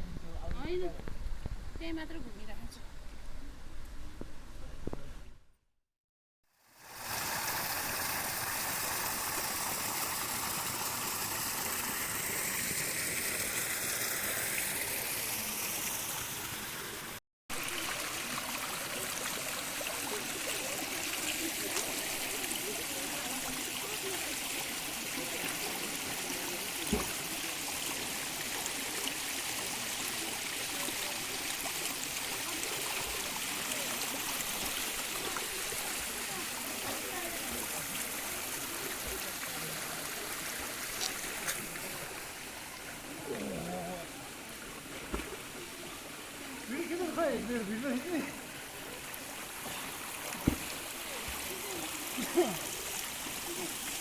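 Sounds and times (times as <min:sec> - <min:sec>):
stream flowing: 0:06.6 - 0:54.0.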